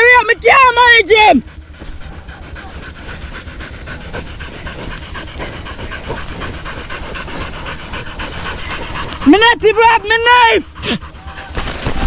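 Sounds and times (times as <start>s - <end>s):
dog panting: 0.0s - 11.7s.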